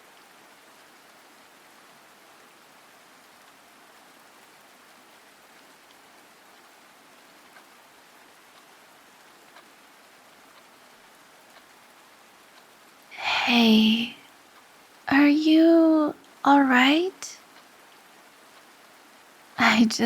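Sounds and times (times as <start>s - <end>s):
faint raindrop ticks: 0.0s - 13.2s, 14.1s - 19.6s
rain hissing: 0.0s - 20.0s.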